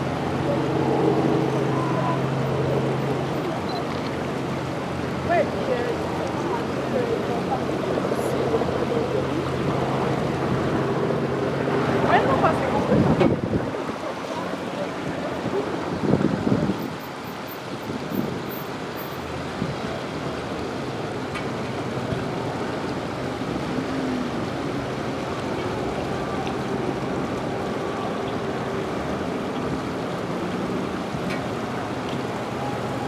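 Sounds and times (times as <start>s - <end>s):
rushing floodwater: 0.0s - 33.0s.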